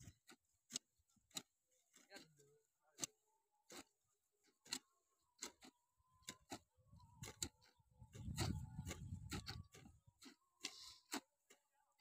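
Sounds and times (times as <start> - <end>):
hoes striking and scraping soil: 0.0 - 12.0.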